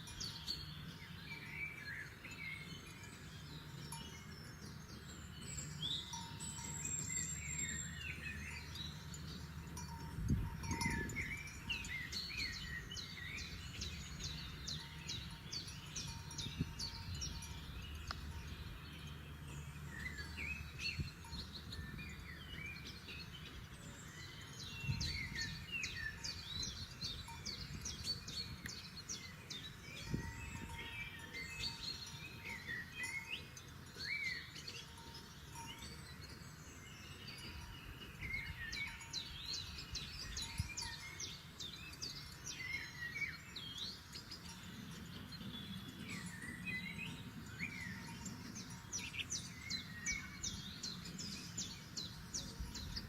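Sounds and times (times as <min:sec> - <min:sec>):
songbirds chirping and whistling: 0:00.0 - 0:53.0.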